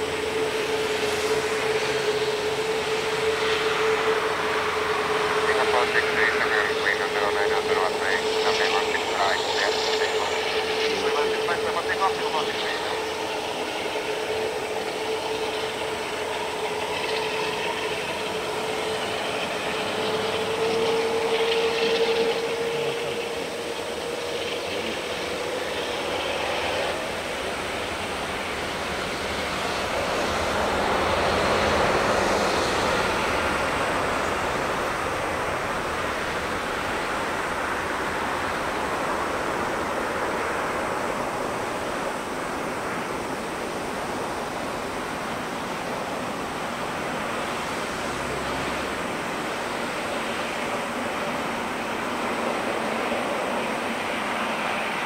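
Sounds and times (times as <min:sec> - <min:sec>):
jet engine whine: 0:00.0 - 0:55.0
rush of jet noise: 0:00.0 - 0:55.0.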